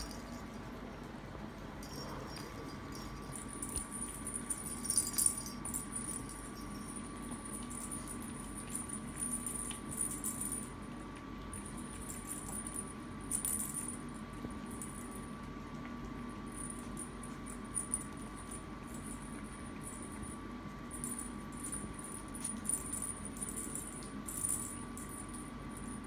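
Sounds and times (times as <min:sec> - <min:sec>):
bell toy jingling and rattling: 0:00.0 - 0:00.6, 0:01.8 - 0:10.7, 0:11.5 - 0:14.1, 0:16.6 - 0:26.0
steady hum: 0:00.0 - 0:26.0.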